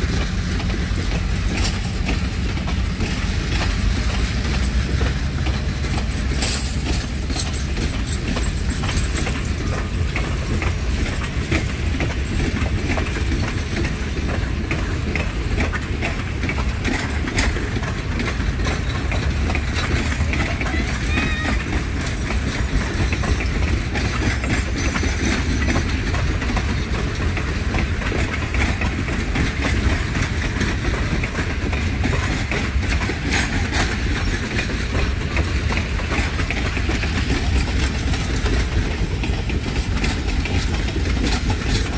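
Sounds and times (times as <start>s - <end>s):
train cars rumbling past: 0.0s - 41.9s
wheels clacking over rail joints: 0.0s - 41.9s.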